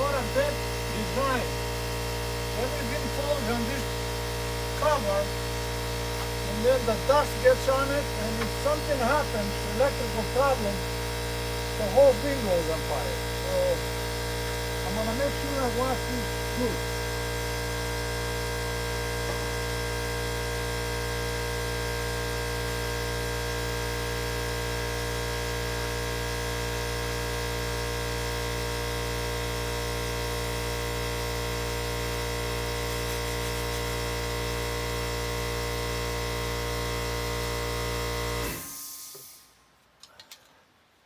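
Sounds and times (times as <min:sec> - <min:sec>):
pressure washer motor humming: 0:00.0 - 0:39.4.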